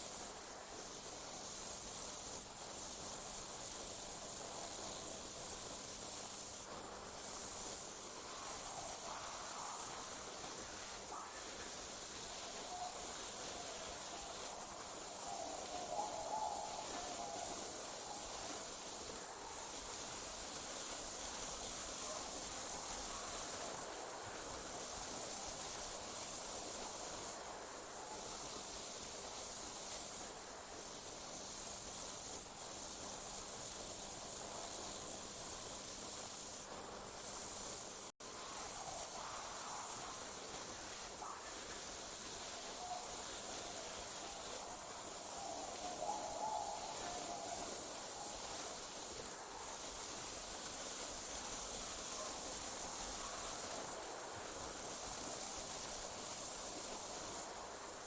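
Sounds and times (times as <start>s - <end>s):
crickets trilling: 0.0s - 27.4s, 28.0s - 58.0s.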